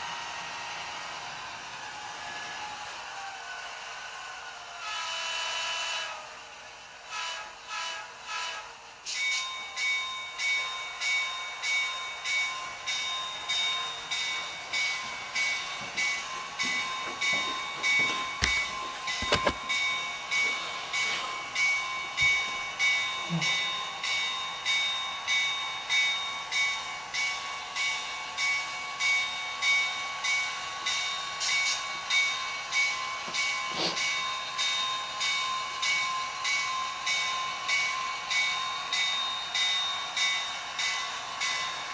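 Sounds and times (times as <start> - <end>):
model train whine: 0.0 - 41.9.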